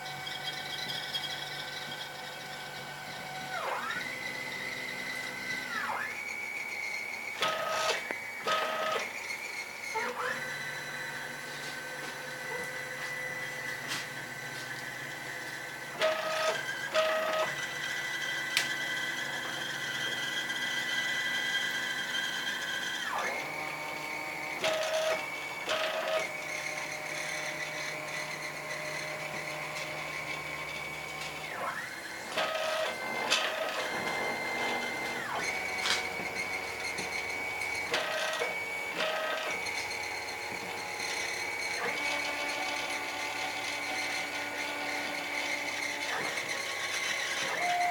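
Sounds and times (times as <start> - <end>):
cnc router motors whining: 0.0 - 47.9
short motor bursts: 0.0 - 47.9.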